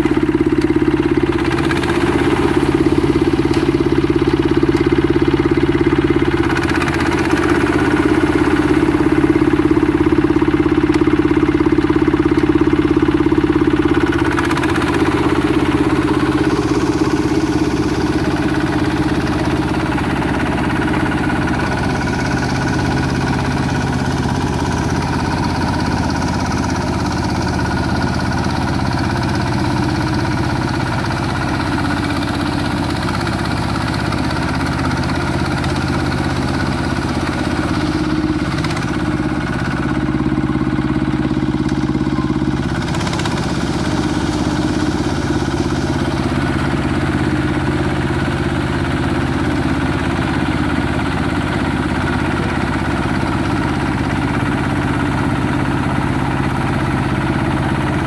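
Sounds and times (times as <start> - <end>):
combine harvester running: 0.0 - 58.0.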